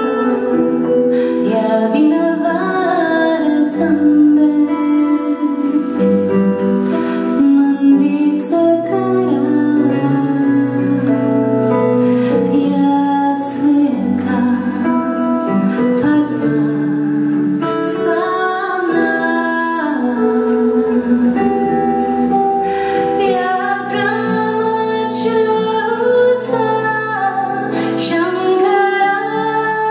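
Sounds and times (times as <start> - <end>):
woman singing long notes: 0.0 - 6.2, 7.3 - 29.9.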